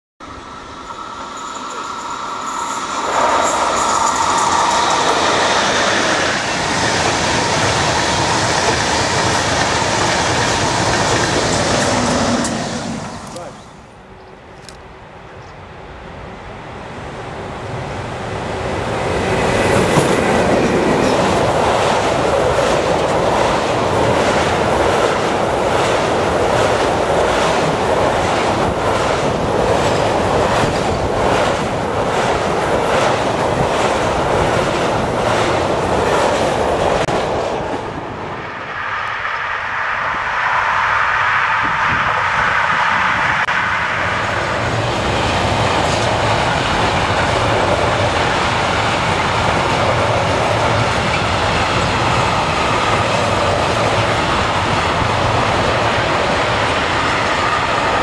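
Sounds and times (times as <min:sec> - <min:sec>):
freight train passing: 0:00.2 - 0:58.0
train rushing past: 0:00.2 - 0:58.0.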